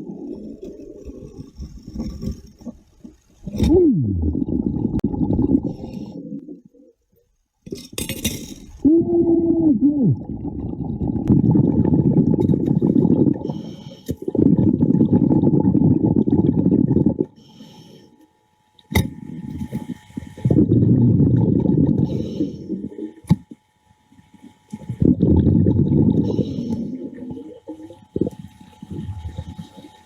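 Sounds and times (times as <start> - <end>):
underwater air bubbles: 0.0 - 7.0, 8.8 - 17.6, 19.0 - 30.0.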